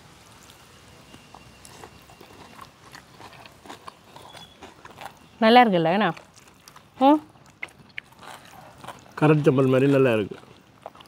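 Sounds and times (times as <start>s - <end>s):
faint chewing: 0.3s - 11.0s.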